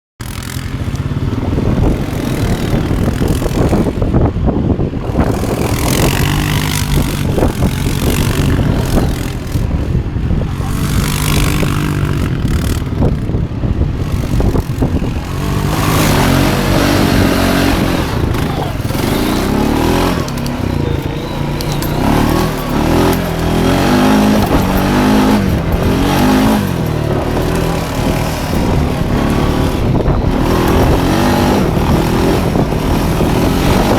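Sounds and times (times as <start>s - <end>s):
quad bike engine revving: 0.2s - 33.9s.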